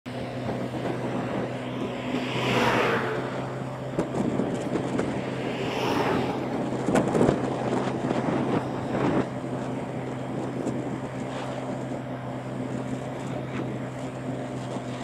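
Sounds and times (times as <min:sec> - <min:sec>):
scooter engine hum: 0:00.1 - 0:15.0
wind rushing over microphone: 0:00.1 - 0:15.0.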